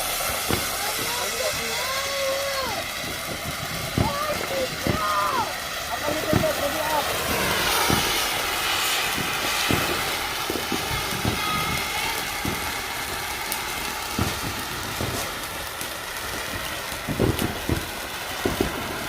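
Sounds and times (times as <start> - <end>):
firework hissing: 0.0 - 19.0.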